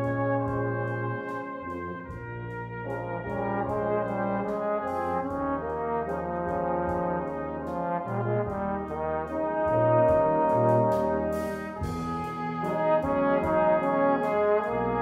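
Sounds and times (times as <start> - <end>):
brass ensemble playing chords: 0.0 - 15.0.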